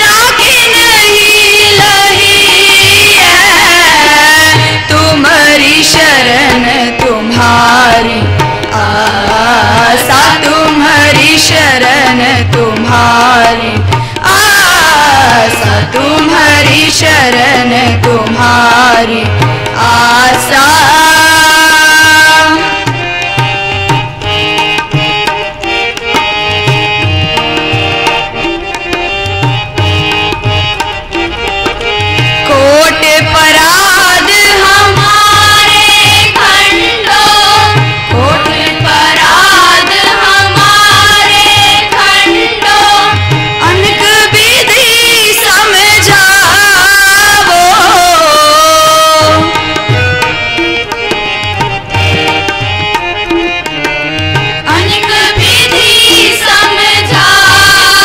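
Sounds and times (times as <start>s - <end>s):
harmonium: 0.0s - 58.0s
tabla rhythm: 0.0s - 58.0s
voices singing: 0.0s - 58.0s.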